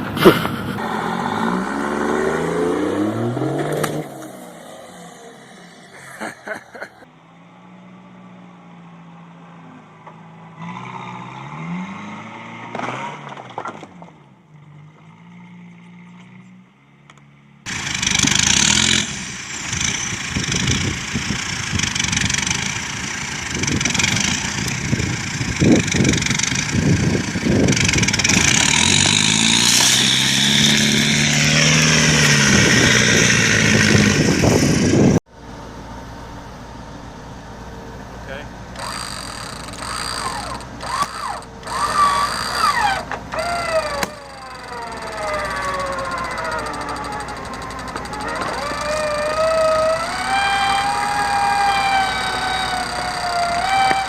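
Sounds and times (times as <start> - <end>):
vehicle engines revving: 0.0 - 54.0.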